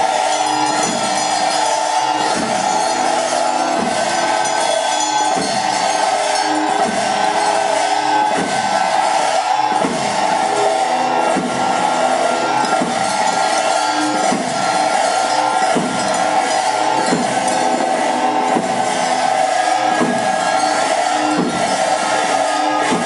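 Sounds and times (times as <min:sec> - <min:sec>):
cymbal beats: 0:00.0 - 0:23.0
slow drum beats: 0:00.0 - 0:23.0.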